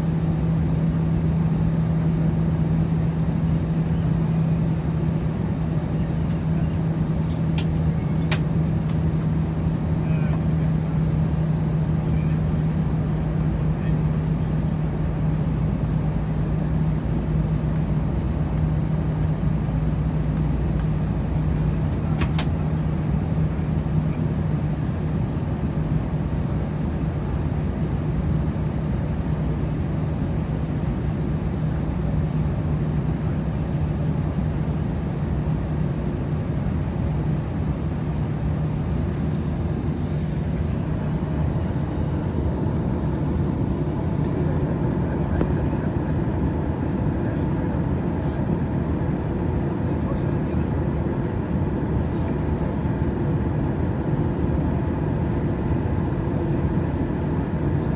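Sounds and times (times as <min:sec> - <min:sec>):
airliner cabin engine drone: 0:00.0 - 0:57.9.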